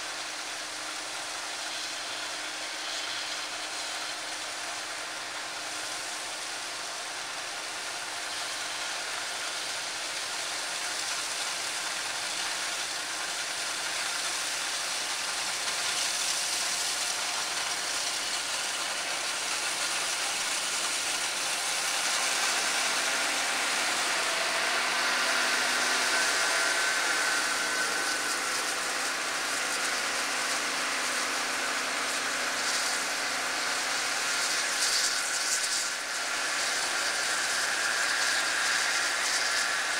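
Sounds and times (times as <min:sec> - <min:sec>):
harvest machinery running: 0:00.0 - 0:39.9.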